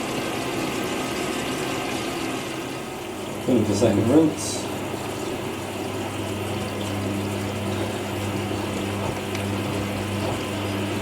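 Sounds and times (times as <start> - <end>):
low electrical hum: 0.0 - 11.0
water rushing into washing machine: 0.0 - 11.0.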